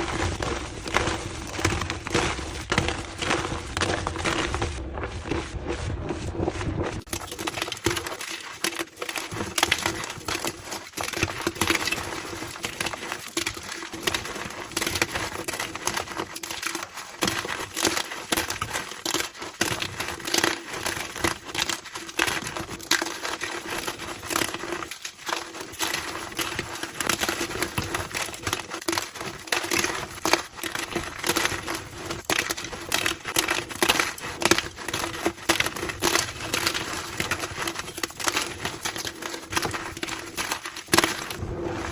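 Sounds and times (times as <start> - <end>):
chalk crushing crackles: 0.0 - 41.9.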